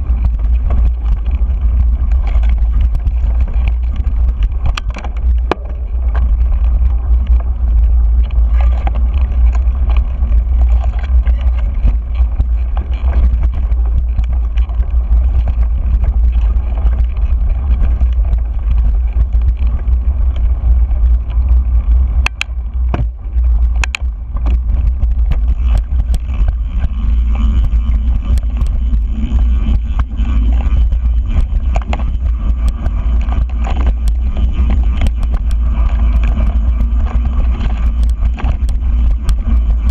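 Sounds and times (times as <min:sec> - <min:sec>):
bike clicks and rattles: 0:00.0 - 0:39.9
tyres rolling on dirt: 0:00.0 - 0:39.9
wind buffeting microphone: 0:00.0 - 0:39.9.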